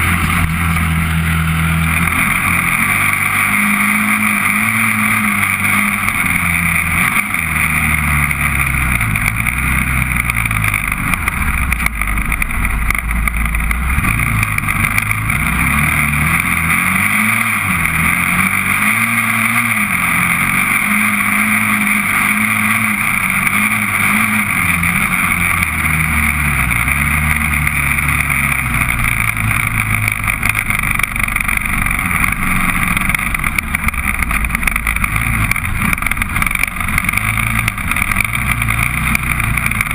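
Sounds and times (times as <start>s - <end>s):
quad bike engine accelerating: 0.0s - 39.9s.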